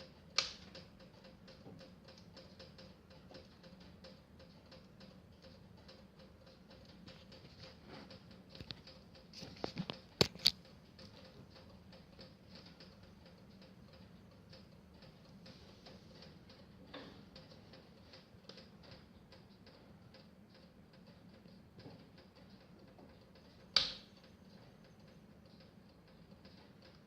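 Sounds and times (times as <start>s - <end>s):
wood fire crackling: 0.0s - 19.9s, 20.8s - 27.0s.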